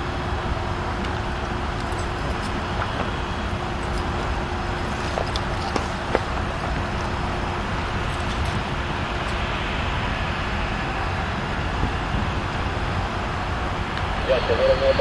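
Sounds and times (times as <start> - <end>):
diesel locomotives moving slowly: 0.0 - 15.0
road traffic: 0.0 - 15.0.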